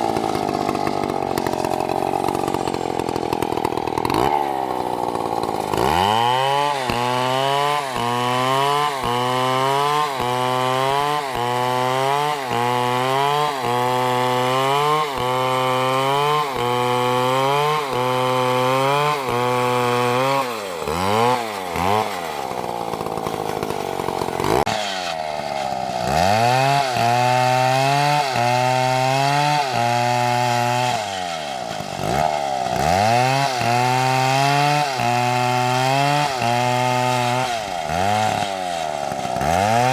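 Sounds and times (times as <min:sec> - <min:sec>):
chainsaw cutting at full throttle: 0:00.0 - 0:39.9.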